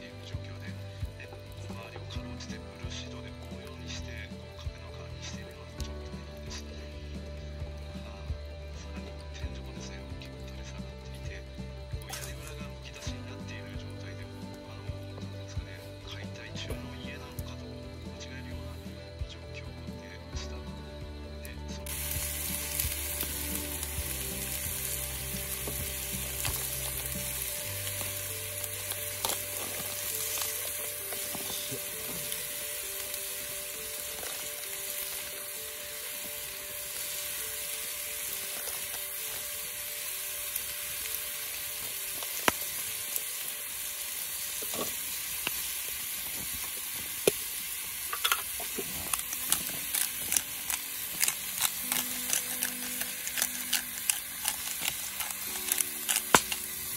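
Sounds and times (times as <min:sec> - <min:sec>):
meat sizzling in a skillet: 0:00.0 - 0:56.9.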